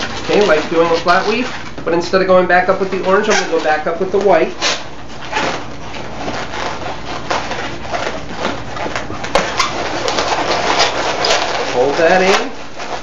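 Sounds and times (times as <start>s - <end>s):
balloons rubbing together: 0.0s - 13.0s.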